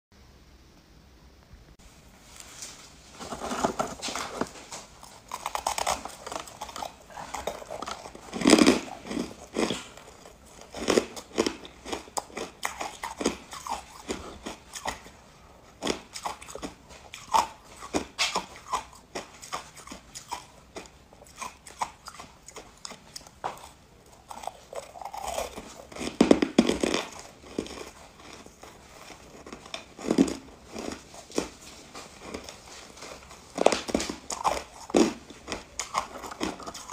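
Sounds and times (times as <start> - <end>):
crunching ice between teeth: 4.8 - 15.1, 15.8 - 36.9.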